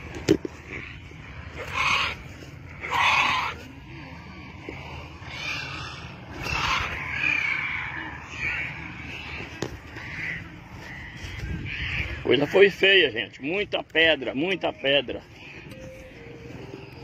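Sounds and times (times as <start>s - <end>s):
birds giving harsh rasping calls: 0.0s - 17.0s.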